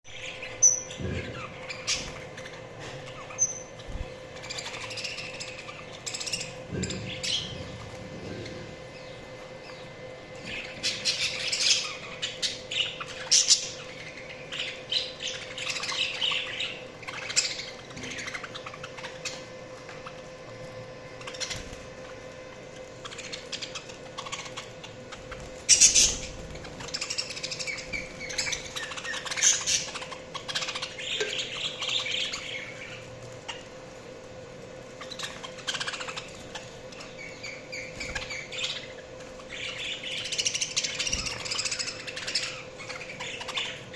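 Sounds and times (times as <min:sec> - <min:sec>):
budgerigars chirping: 0:00.1 - 0:20.4, 0:21.2 - 0:33.7, 0:34.9 - 0:43.9
faint steady hum: 0:00.1 - 0:43.9.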